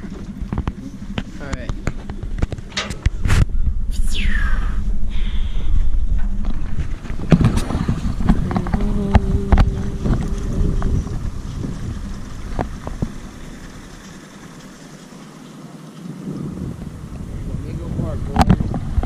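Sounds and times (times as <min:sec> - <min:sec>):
outboard motor running: 0:00.0 - 0:03.6, 0:05.5 - 0:19.0
wind on microphone: 0:00.0 - 0:14.0, 0:16.1 - 0:19.0.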